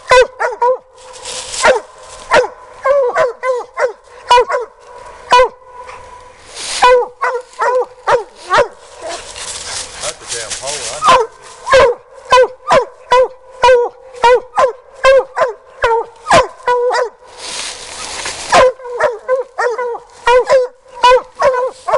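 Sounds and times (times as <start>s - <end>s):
hound barking: 0.0s - 0.9s, 1.6s - 6.2s, 6.8s - 21.9s.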